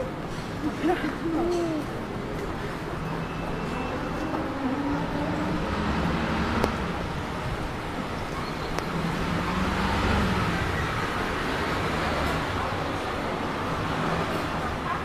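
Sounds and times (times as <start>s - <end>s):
bus engines humming: 0.0s - 15.0s
traffic noise: 0.0s - 15.0s.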